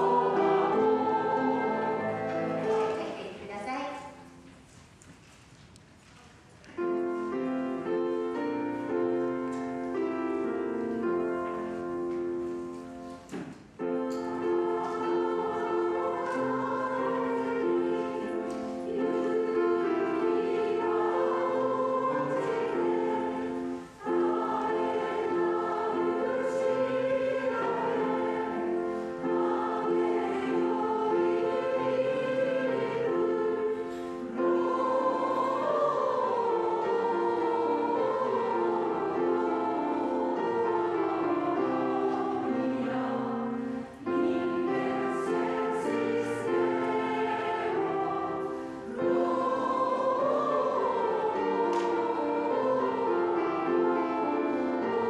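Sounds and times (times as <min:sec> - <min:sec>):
choir singing a hymn: 0:00.0 - 0:03.4, 0:06.8 - 0:55.0.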